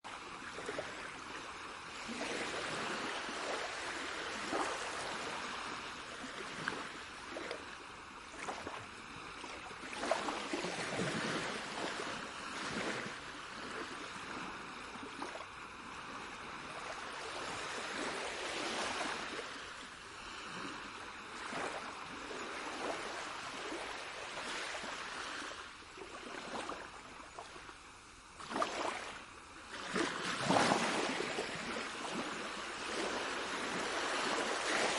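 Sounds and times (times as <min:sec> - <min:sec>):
water rushing and splashing: 0:00.2 - 0:22.0, 0:22.6 - 0:34.9.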